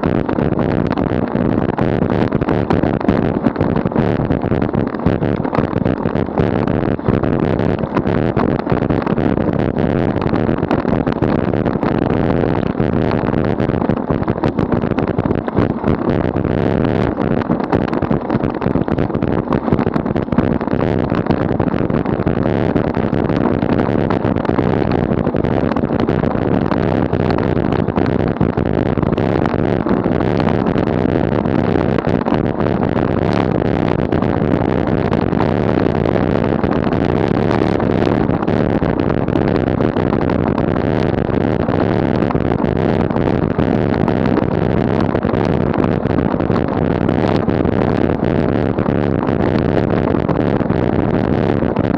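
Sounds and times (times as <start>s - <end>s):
bicycle tyre rumble on asphalt: 0.0s - 51.9s
rushing wind: 0.0s - 51.9s.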